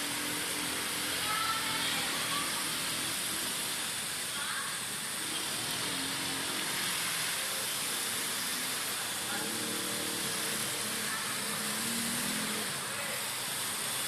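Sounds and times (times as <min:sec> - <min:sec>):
atv engine running: 0:00.0 - 0:04.2, 0:04.9 - 0:13.8
constant high hiss: 0:00.0 - 0:14.0.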